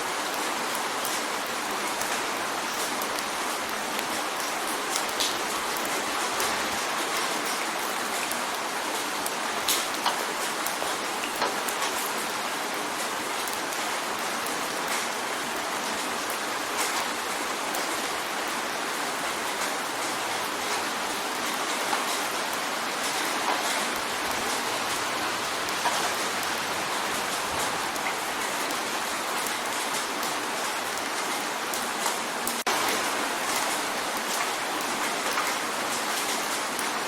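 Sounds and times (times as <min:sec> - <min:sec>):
rain on a window: 0:00.0 - 0:37.0.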